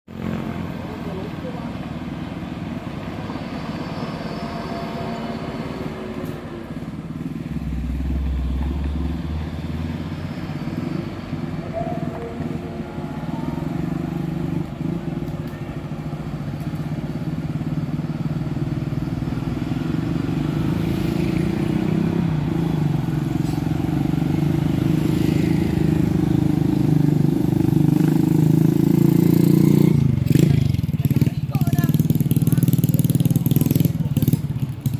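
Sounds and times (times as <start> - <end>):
truck diesel engine running: 0.1 - 34.9.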